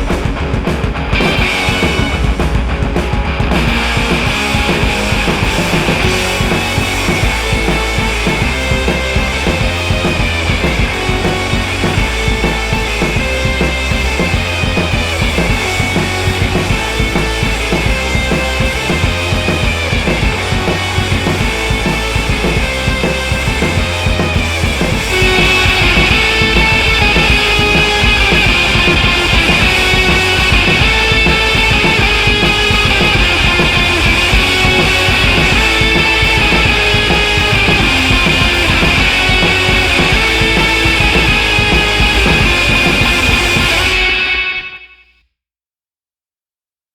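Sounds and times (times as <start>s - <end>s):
rock music with drums and guitar: 0.0s - 44.7s.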